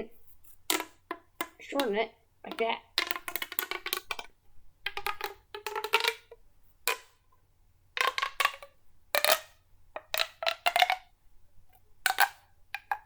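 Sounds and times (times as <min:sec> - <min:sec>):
fidget toy clicking and popping: 0:00.6 - 0:07.2, 0:08.0 - 0:11.1, 0:12.0 - 0:13.0.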